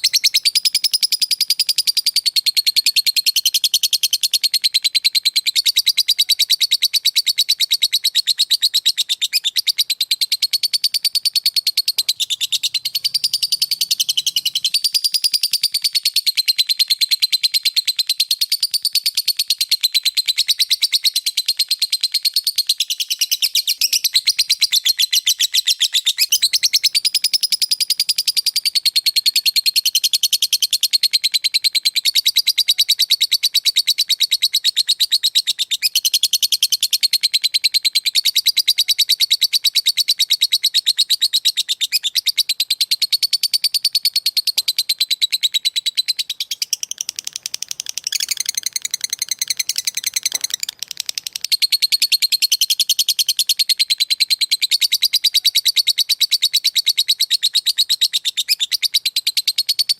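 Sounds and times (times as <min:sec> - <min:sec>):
lovebird rapid high chirps: 0:00.0 - 0:59.9.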